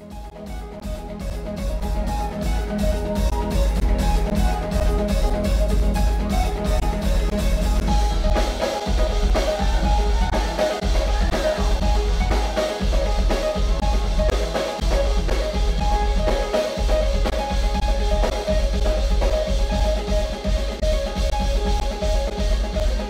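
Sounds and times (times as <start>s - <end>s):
bass line: 0.0s - 23.0s
drum-kit beat: 0.0s - 23.0s.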